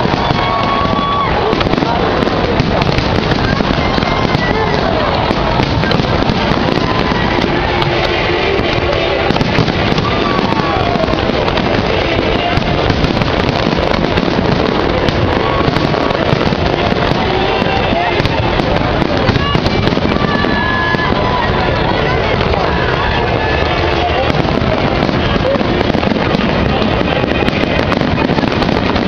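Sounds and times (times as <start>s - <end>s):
fireworks crackling and banging: 0.0s - 29.0s
voices: 0.0s - 29.0s
music: 3.8s - 29.0s.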